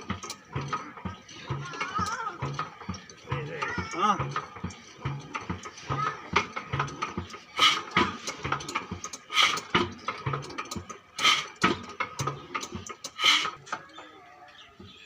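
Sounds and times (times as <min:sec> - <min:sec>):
diesel engine low thumps: 0:00.0 - 0:15.0.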